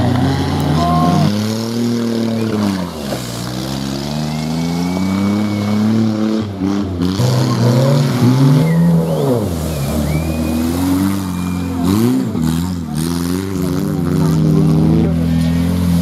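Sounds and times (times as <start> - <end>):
buggy engines revving: 0.0 - 16.0.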